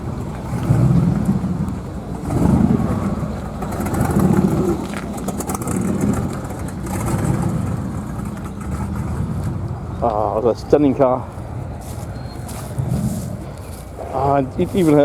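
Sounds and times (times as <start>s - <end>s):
car engines rumbling past: 0.0s - 15.0s.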